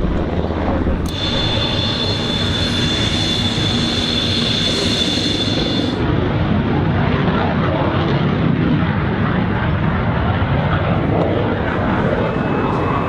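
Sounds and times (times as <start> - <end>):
jet engine rumble: 0.0 - 13.0
jet engines whining: 0.0 - 13.0.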